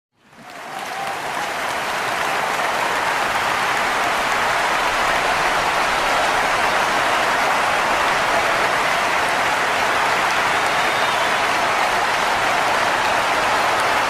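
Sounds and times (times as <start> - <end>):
large crowd applauding: 0.2 - 14.0.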